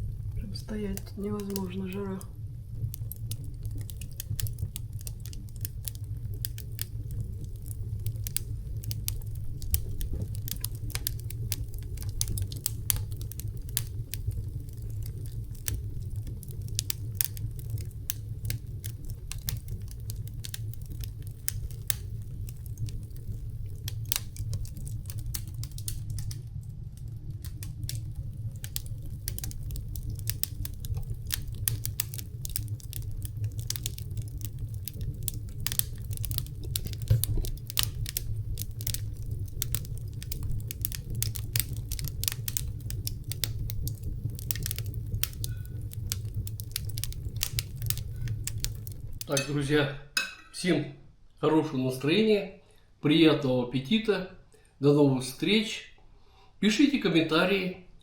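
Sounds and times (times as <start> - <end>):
logs crackling and popping: 0.0 - 50.8
low fire rumble: 0.0 - 52.4.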